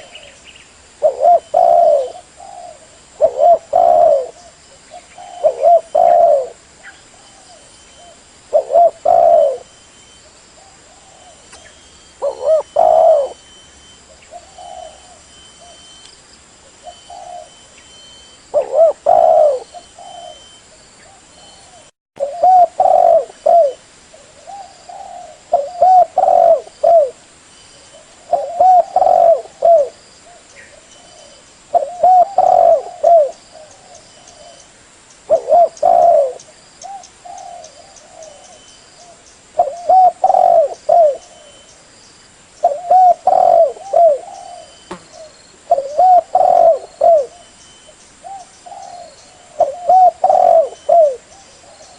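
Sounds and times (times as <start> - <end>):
dove cooing: 1.0 - 15.9, 16.7 - 27.2, 27.8 - 34.6, 35.3 - 41.7, 42.6 - 47.6, 48.2 - 51.9.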